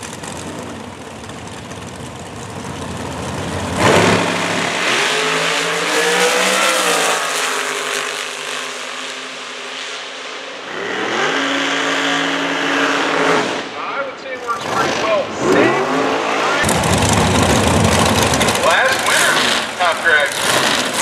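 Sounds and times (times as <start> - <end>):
race car engines launching: 0.0 - 8.7, 10.6 - 21.0.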